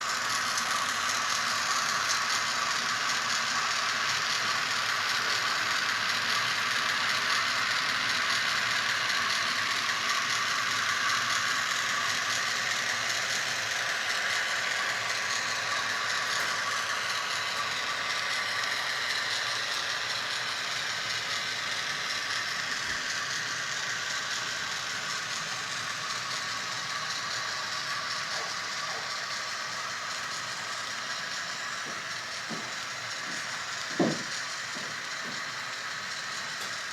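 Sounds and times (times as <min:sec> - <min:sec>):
model train motor whirring: 0:00.0 - 0:36.9
small wheels rattling on rail: 0:00.0 - 0:36.9.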